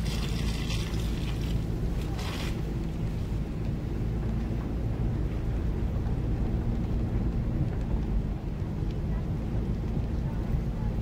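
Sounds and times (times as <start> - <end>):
pickup engine and tyre rumble: 0.0 - 11.0.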